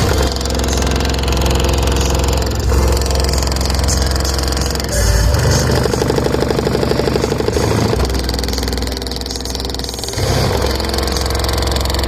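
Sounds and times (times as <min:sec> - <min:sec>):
deep subwoofer bass notes: 0:00.0 - 0:12.0.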